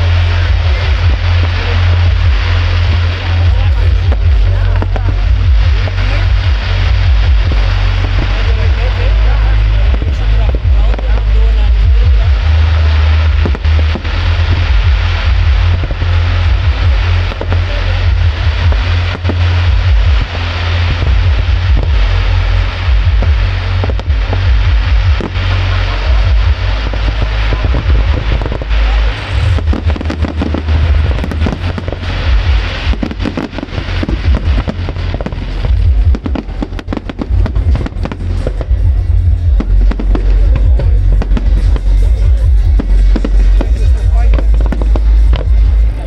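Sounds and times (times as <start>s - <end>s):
fireworks bursting and crackling: 0.0s - 46.0s
loud music playing: 0.0s - 46.0s.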